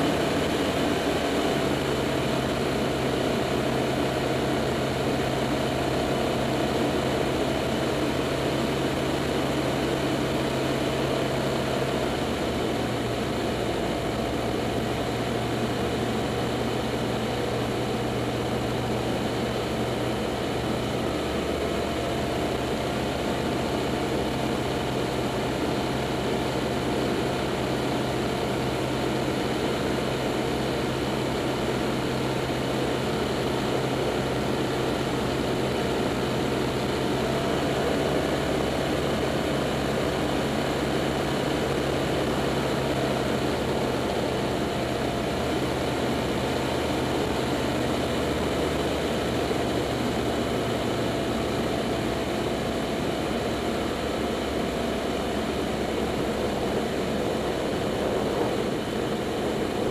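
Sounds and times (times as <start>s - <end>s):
propeller airplane engine droning: 0.0s - 59.9s.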